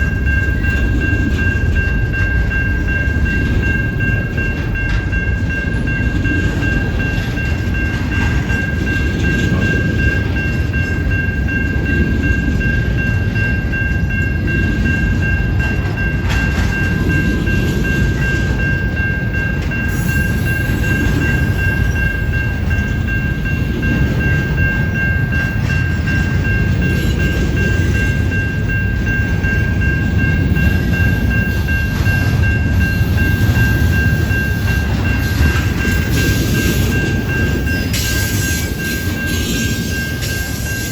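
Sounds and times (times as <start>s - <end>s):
freight train rumbling: 0.0s - 40.9s.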